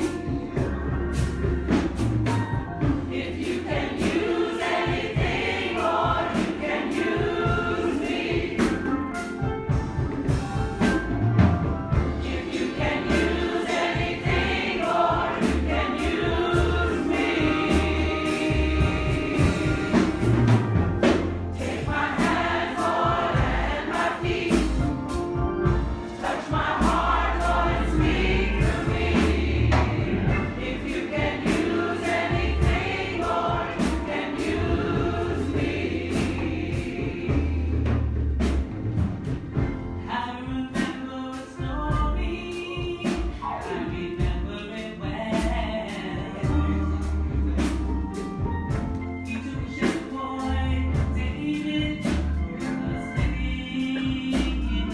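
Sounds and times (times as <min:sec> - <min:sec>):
low bass notes: 0:00.0 - 0:03.4, 0:09.5 - 0:13.6, 0:14.2 - 0:40.1, 0:41.6 - 0:42.5, 0:44.2 - 0:49.6, 0:50.5 - 0:54.9
congregation singing gospel song: 0:00.0 - 0:54.9
drum kit beat: 0:00.0 - 0:54.9.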